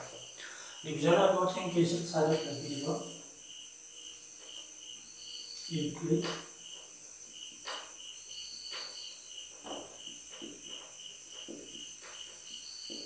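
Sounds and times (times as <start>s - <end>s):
steady high chirping: 0.0s - 13.0s.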